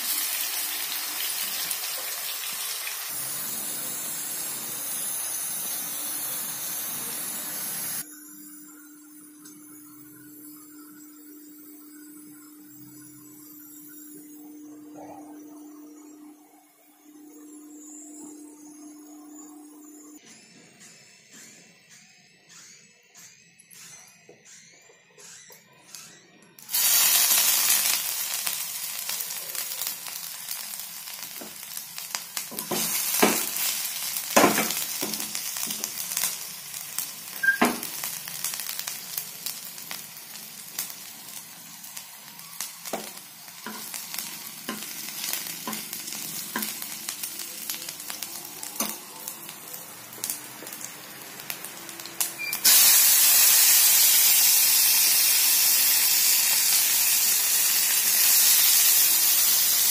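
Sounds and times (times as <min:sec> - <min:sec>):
spices sizzling in hot oil: 0:00.0 - 0:14.7, 0:25.2 - 0:59.9
loud hissing sizzle: 0:00.0 - 0:16.3, 0:26.6 - 0:59.9.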